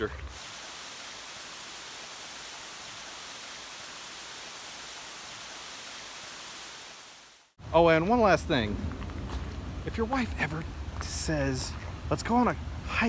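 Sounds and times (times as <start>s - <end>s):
water rushing in rain: 0.0s - 13.0s.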